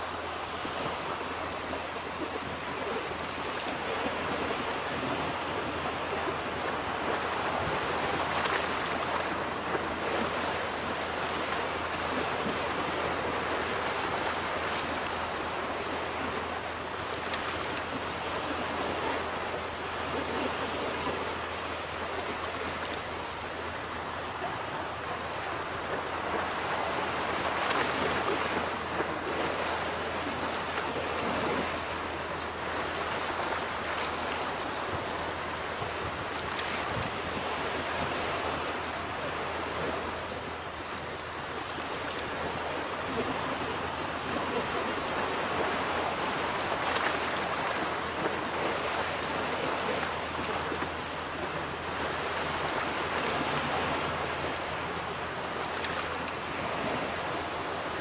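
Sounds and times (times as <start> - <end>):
ocean surf washing onto beach: 0.0 - 58.0.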